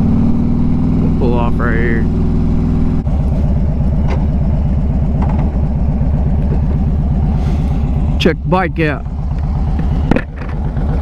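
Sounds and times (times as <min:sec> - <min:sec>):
motorcycle engine idling: 0:00.4 - 0:11.0.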